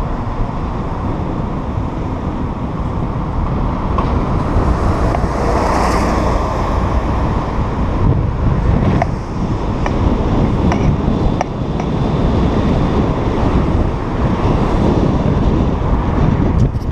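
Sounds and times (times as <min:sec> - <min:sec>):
road noise: 0:00.0 - 0:16.9
wind buffeting microphone: 0:00.0 - 0:16.9.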